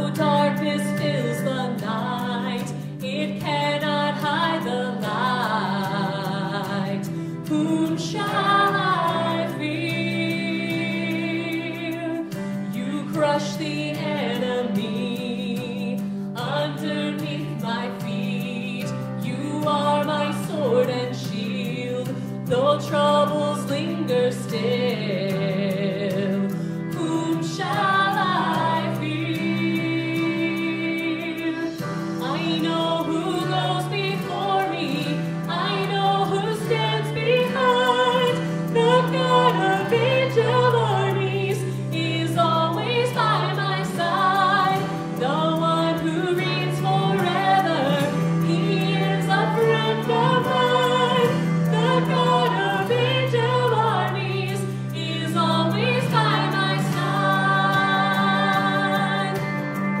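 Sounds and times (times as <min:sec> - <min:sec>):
woman singing into microphone: 0:00.0 - 1:00.0.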